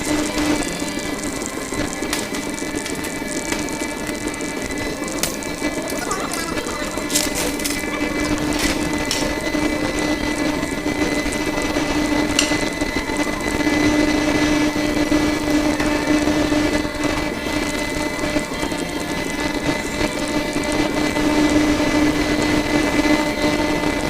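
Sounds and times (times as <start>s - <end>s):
small machine humming: 0.0s - 24.0s.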